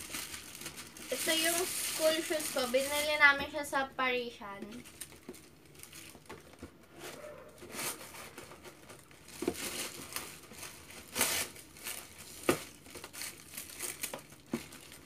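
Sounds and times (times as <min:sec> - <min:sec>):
paper bag rustling and crinkling: 0:00.0 - 0:03.6, 0:04.7 - 0:15.0.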